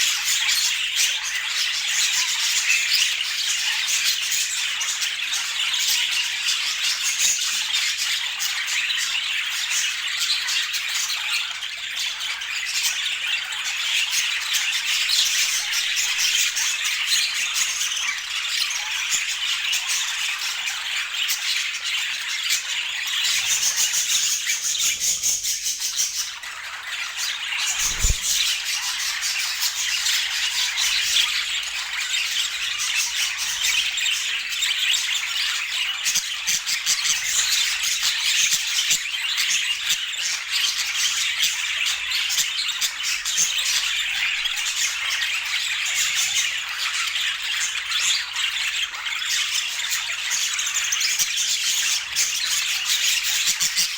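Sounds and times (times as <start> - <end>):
budgerigars chattering: 7.3 - 53.9.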